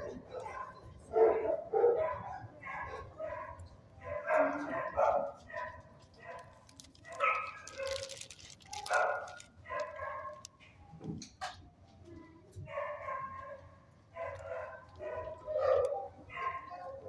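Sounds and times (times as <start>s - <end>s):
dogs barking: 0.0s - 10.6s, 12.6s - 17.0s.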